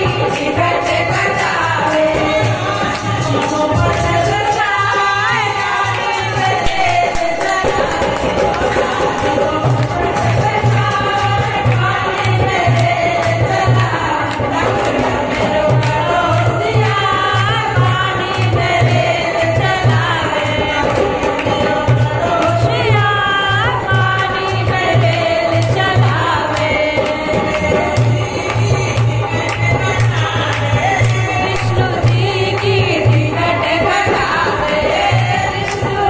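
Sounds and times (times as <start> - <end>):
hand-drum beat: 0.0 - 36.0
women singing folk song: 0.0 - 36.0
hand-clapping: 2.8 - 36.0.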